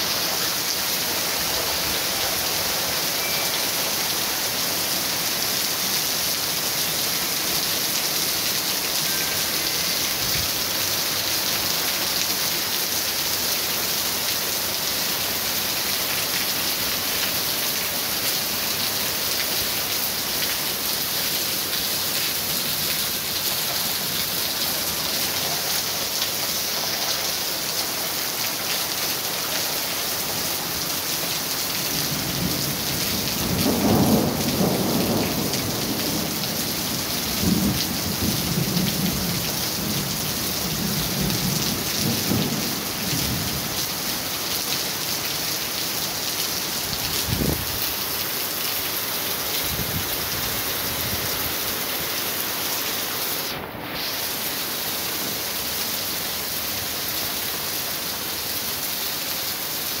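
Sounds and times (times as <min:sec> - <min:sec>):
heavy rain on street: 0:00.0 - 1:00.0.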